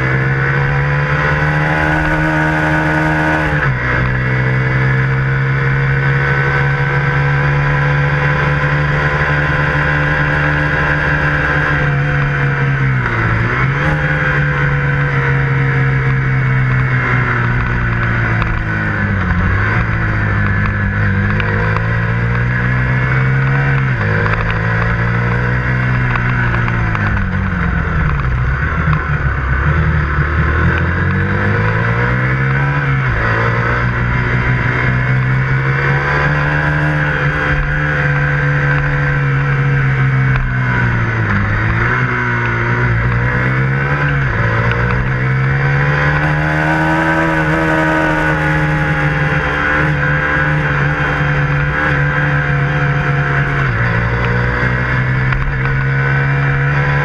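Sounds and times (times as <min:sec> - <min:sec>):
motorcycle engine droning: 0:00.0 - 0:57.0.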